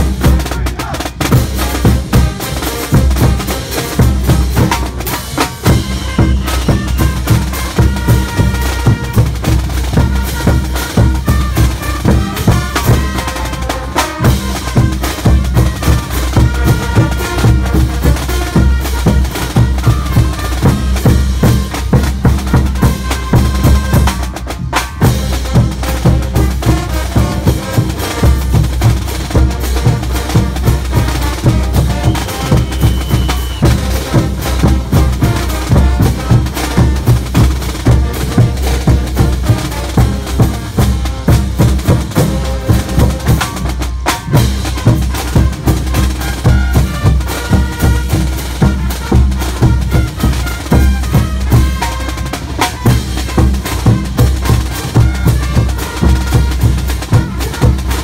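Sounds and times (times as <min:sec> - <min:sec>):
bass drums beaten: 0:00.0 - 0:58.0
snare drum: 0:00.0 - 0:58.0.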